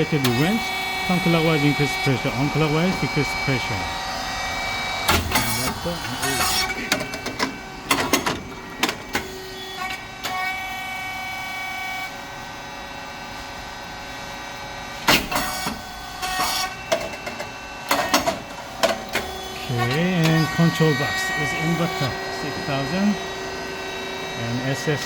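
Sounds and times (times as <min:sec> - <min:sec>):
machine whirring hum: 0:00.0 - 0:25.0.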